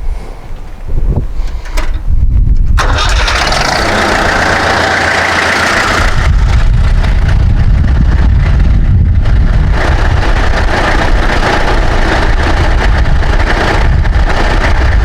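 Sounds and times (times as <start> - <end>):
diesel engine cranking: 0.0 - 15.0.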